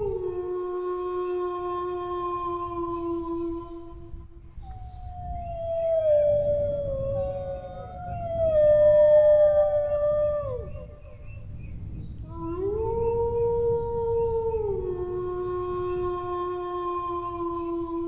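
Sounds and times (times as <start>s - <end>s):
dog howling: 0.0s - 3.8s, 4.8s - 11.5s, 12.3s - 18.0s.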